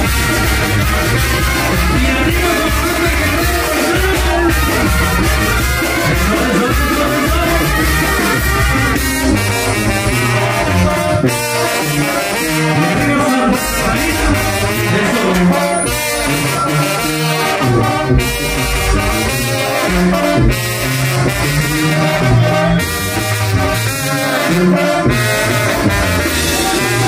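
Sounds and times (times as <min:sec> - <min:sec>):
trumpets and trombones: 0:00.0 - 0:27.0.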